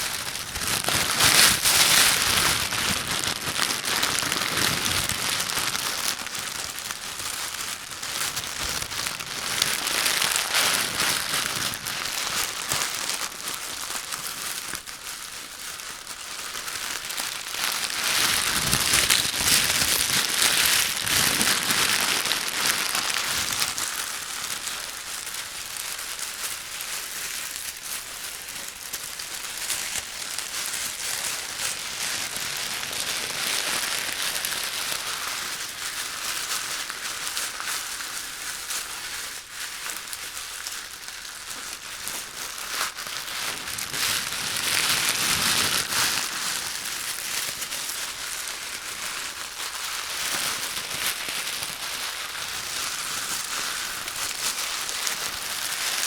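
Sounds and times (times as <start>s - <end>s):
fine crackling and crinkling: 0.0s - 56.0s.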